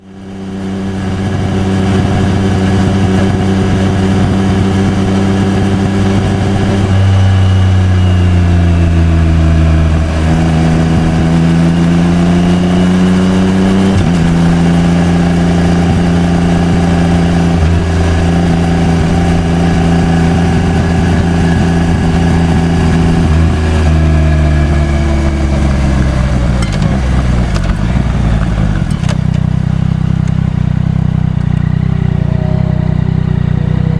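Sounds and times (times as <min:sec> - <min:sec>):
motorcycle engine shifting up: 0:00.1 - 0:33.9.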